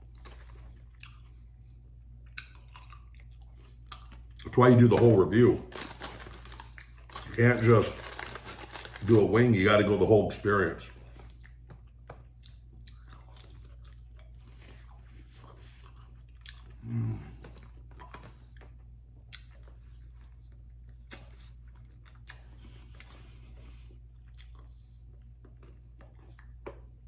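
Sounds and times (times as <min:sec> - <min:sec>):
chewing chicken wings: 0:00.0 - 0:09.6, 0:10.8 - 0:27.0.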